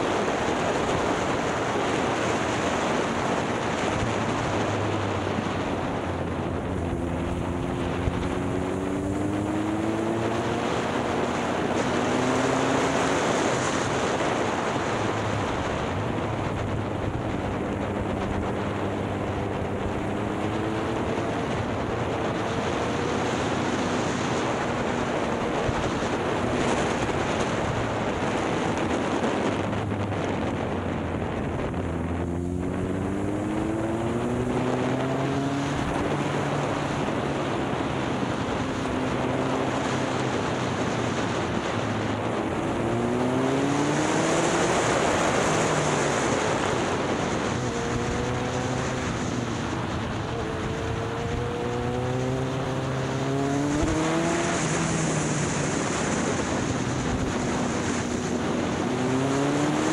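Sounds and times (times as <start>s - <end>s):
motorcycle engine accelerating: 0.0s - 59.9s
wind rushing over microphone: 0.0s - 59.9s.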